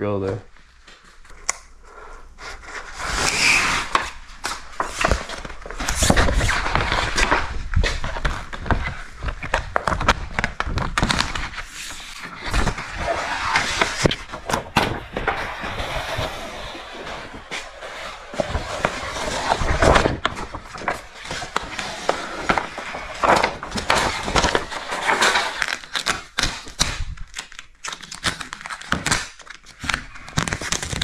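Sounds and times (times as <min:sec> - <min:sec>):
vinyl sheet rustling and crackling: 0:02.6 - 0:31.0
backing liner peeling: 0:02.7 - 0:31.0.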